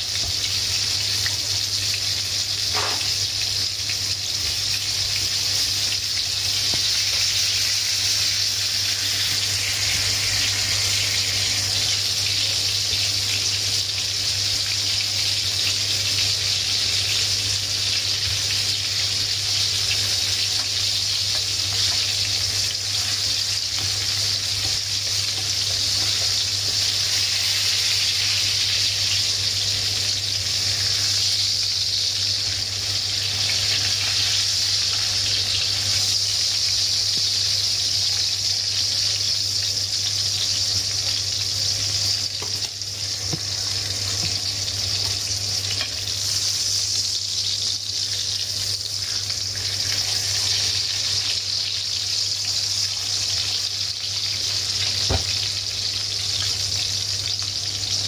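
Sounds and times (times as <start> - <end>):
oil sizzling from deep-frying: 0.0 - 58.0.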